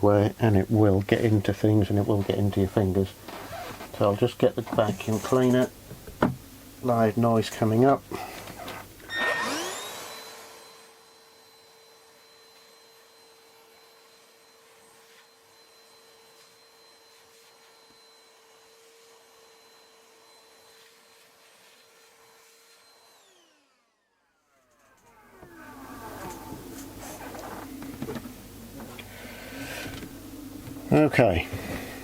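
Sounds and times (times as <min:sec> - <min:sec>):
vacuum cleaner motor whining: 0:03.0 - 0:06.4, 0:08.1 - 0:32.0.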